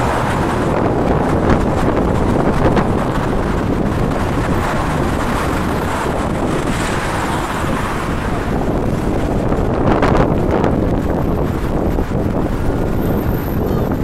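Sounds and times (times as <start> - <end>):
road traffic driving past: 0.0 - 14.0.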